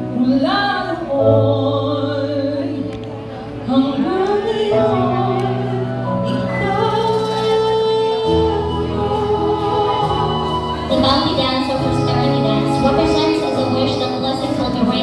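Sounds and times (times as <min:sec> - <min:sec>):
slow sung song: 0:00.0 - 0:13.4.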